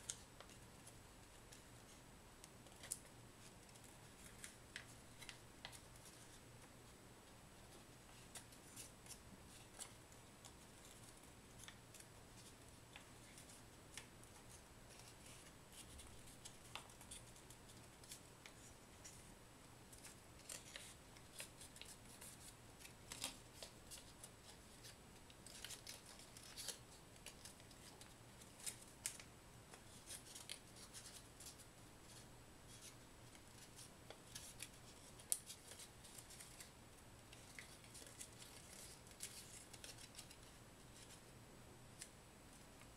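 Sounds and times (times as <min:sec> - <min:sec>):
paper crinkling while folded: 0:00.0 - 0:06.8, 0:07.6 - 0:19.3, 0:19.9 - 0:41.3.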